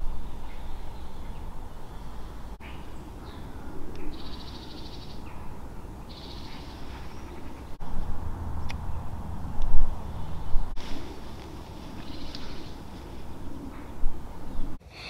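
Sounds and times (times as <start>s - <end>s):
low steady rumble: 0.0s - 14.8s
bird trilling: 0.5s - 7.8s, 10.0s - 14.8s.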